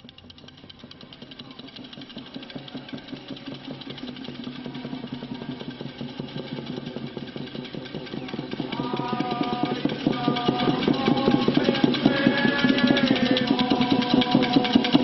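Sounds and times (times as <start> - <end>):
wooden clapper-rattle clattering: 0.0 - 15.0.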